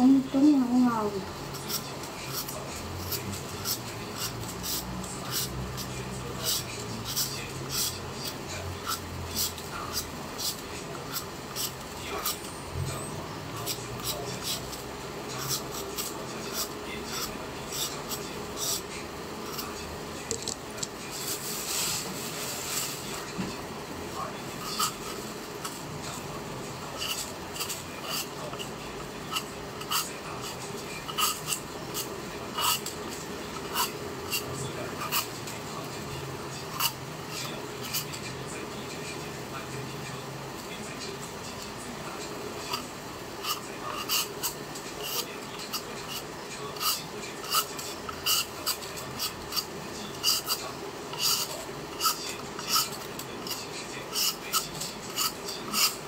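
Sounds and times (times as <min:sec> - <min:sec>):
vegetable peeler scraping potato: 0:00.2 - 0:20.6, 0:24.6 - 0:38.3, 0:42.4 - 0:56.0.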